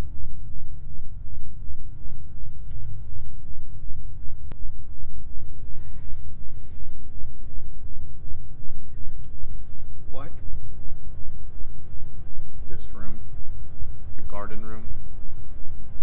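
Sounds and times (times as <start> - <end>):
faint hum: 0.0 - 16.0
loud low rumble: 0.0 - 16.0.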